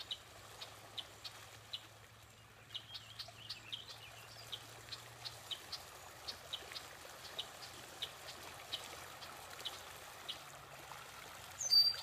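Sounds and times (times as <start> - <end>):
bicycle tyres through water: 0.0 - 12.0.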